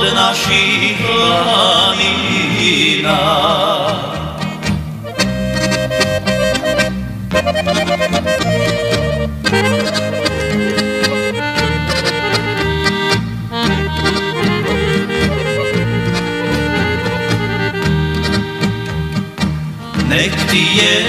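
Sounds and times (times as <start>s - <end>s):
instrumental folk music: 0.0s - 21.0s.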